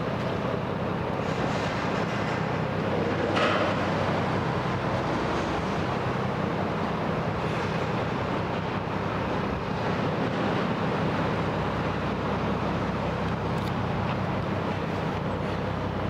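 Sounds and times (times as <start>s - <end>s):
diesel engines droning: 0.0s - 16.0s
noisy hiss: 0.0s - 16.0s.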